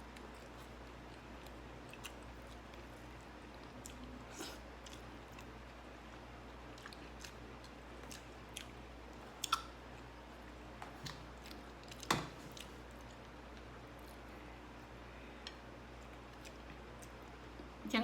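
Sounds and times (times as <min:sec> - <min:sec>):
person chewing food: 0:00.0 - 0:14.3, 0:15.4 - 0:17.7.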